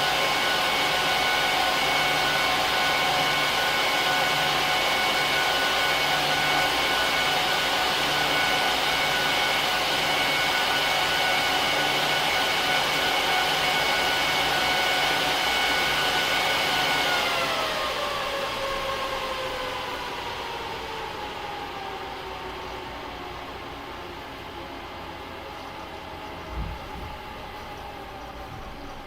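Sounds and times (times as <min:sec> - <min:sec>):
server cooling fans whining: 0:00.0 - 0:29.0.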